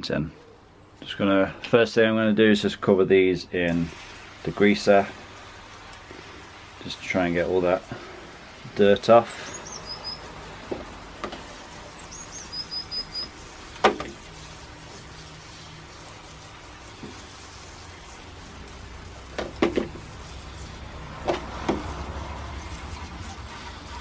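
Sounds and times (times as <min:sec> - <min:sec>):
spray hissing: 0:03.7 - 0:24.0.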